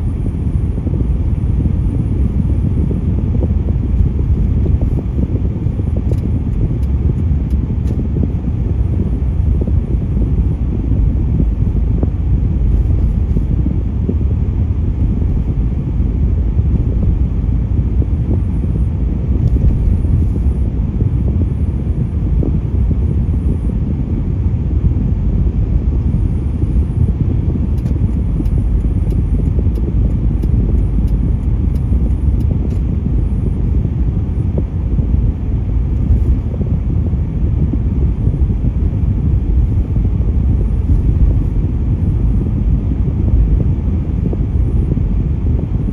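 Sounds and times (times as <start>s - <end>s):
road vehicle rumble: 0.0s - 45.9s.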